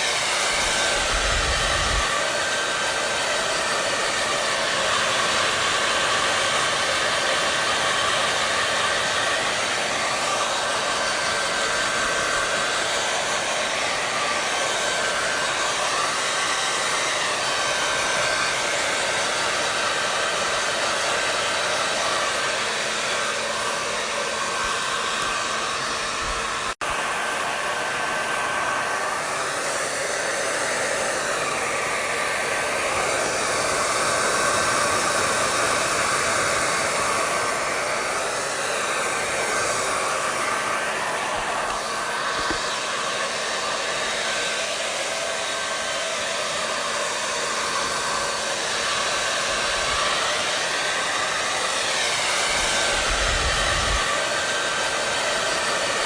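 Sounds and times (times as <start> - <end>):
hair dryer blowing: 0.0 - 56.0.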